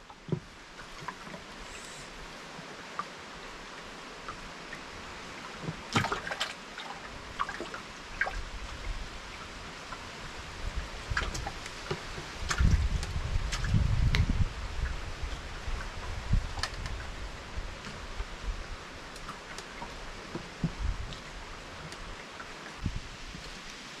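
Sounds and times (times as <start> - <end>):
water lapping around boat: 0.0 - 24.0.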